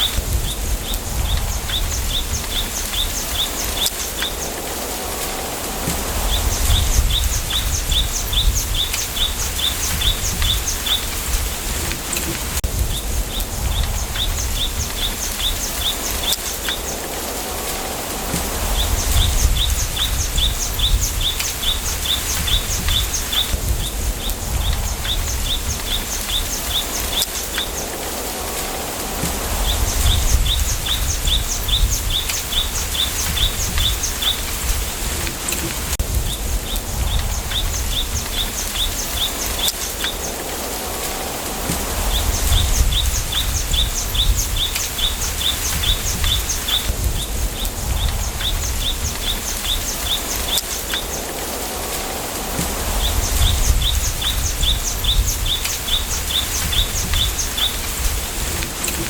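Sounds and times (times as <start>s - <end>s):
bamboo leaves rustling: 0.0s - 59.0s
low wind rumble: 0.0s - 59.0s.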